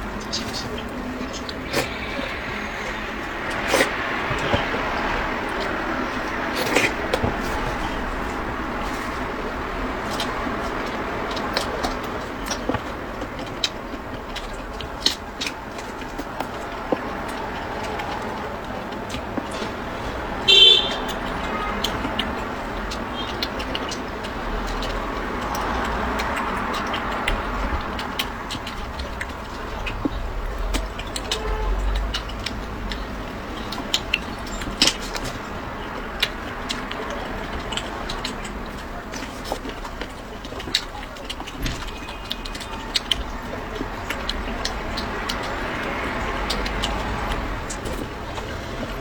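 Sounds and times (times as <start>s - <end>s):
chewing with wet mouth clicks: 0.0s - 49.0s.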